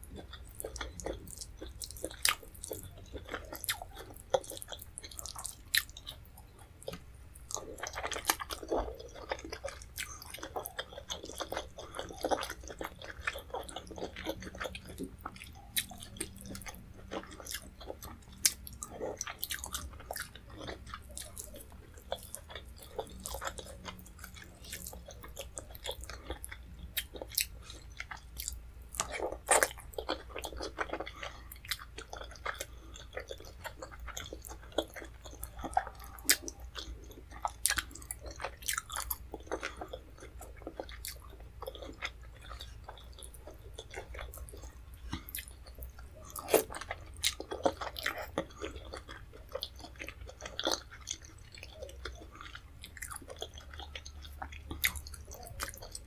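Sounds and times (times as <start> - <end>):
wet chewing: 0.0 - 56.0.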